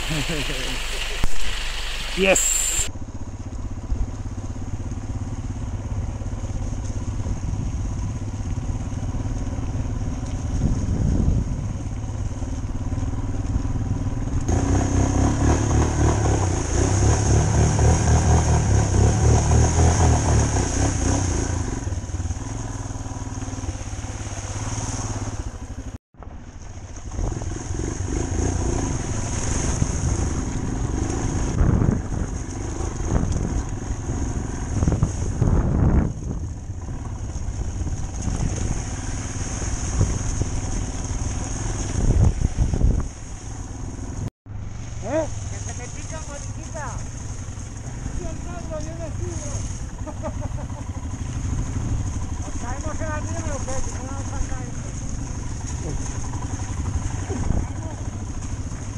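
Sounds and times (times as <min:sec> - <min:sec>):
water splashing: 0:00.0 - 0:02.9, 0:04.3 - 0:58.9
motorcycle engine running: 0:00.0 - 0:58.9.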